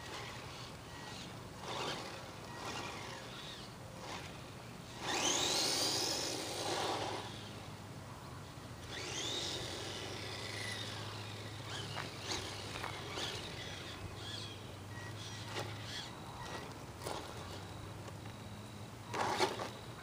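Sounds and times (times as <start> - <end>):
toy truck motor whining: 0.0 - 7.7, 8.8 - 18.3, 19.1 - 20.0.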